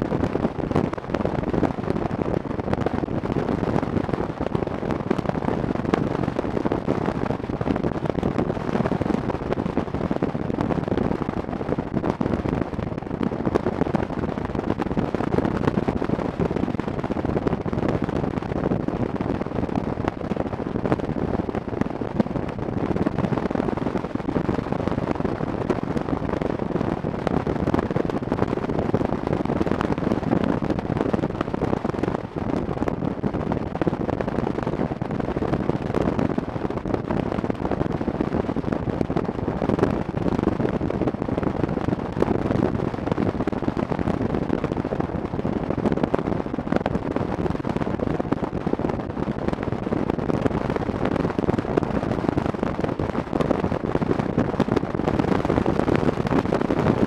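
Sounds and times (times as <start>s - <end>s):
wind buffeting microphone: 0.0s - 57.0s
wind rush: 0.0s - 57.0s.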